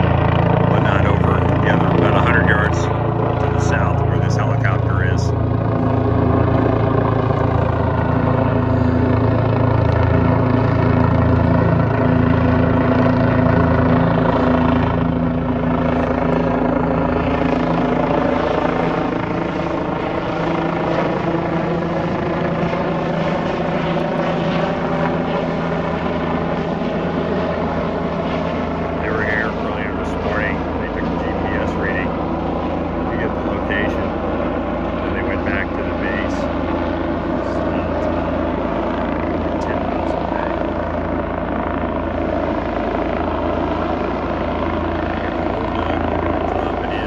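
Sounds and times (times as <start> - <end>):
helicopter rotor and engine: 0.0 - 47.0.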